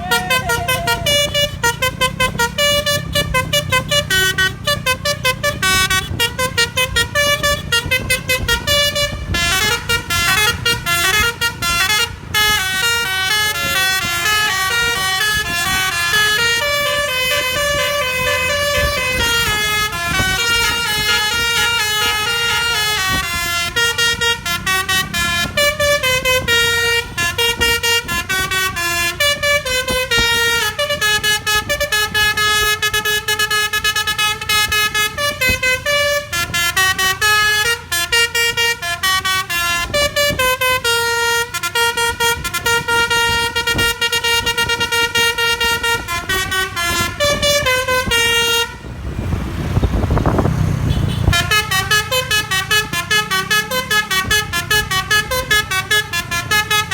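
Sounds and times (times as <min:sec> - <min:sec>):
bus air horns playing a tune: 0:00.0 - 0:56.9.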